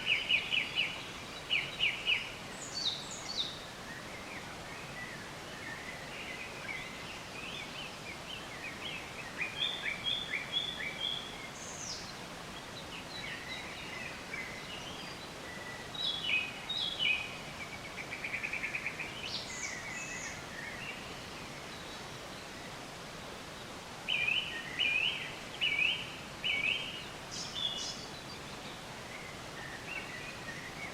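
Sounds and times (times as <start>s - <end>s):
background hiss: 0.0s - 30.9s
songbirds chirping and trilling: 0.0s - 30.9s.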